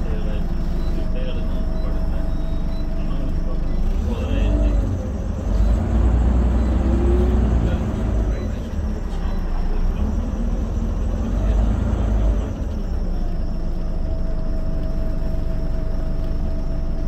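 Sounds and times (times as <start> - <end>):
bus engine and road rumble: 0.0 - 17.0
steady whine: 0.0 - 17.0.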